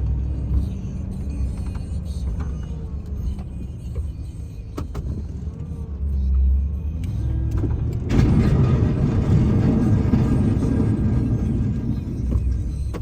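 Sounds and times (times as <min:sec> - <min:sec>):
snow plow engine rumbling: 0:00.0 - 0:13.0.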